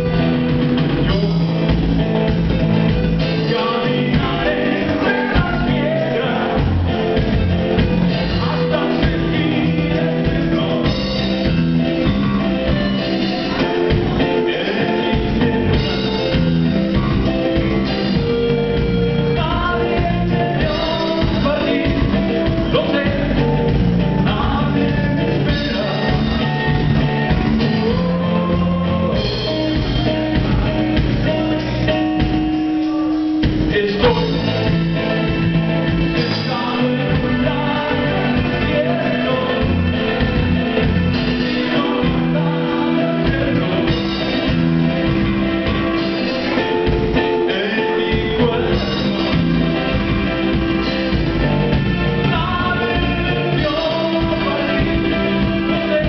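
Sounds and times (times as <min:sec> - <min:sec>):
bass guitar: 0:00.0 - 0:56.0
drum kit: 0:00.0 - 0:56.0
electric guitar: 0:00.0 - 0:56.0
person singing: 0:00.8 - 0:02.2, 0:02.8 - 0:56.0.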